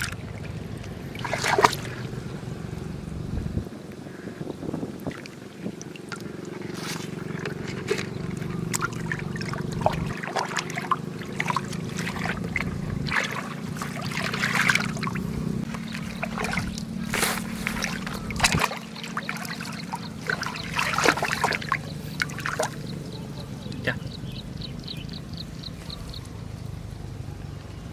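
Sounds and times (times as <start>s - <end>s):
engine hum: 0.0s - 27.9s
shallow water splashing: 0.0s - 27.9s.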